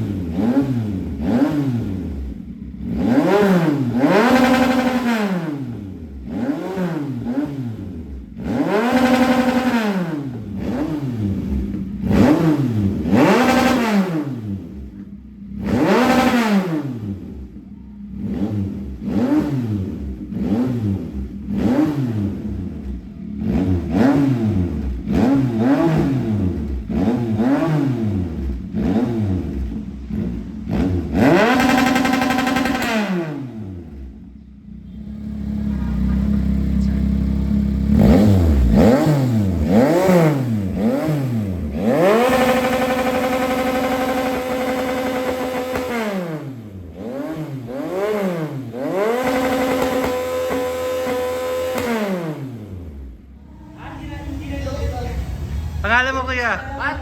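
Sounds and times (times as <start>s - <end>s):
motorcycle engine revving: 0.0s - 56.2s.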